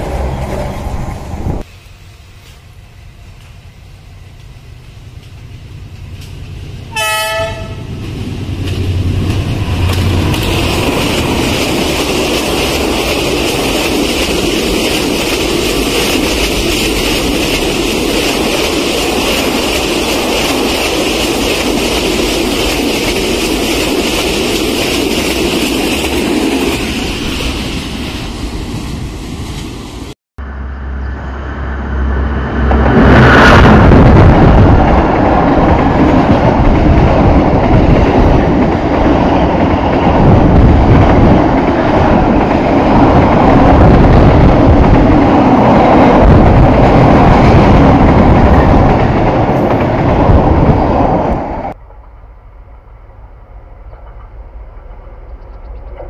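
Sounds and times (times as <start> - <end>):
freight train deep rumble: 0.0 - 56.0
locomotive engine rumbling: 0.0 - 56.0
train wheels clattering on rails: 4.3 - 27.8, 32.8 - 52.2, 53.7 - 56.0.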